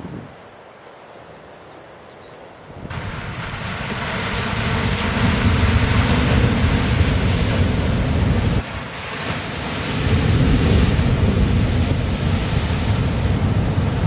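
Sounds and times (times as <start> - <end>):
strong wind buffeting microphone: 0.0 - 1.4, 2.6 - 14.0
ocean surf: 0.0 - 14.0.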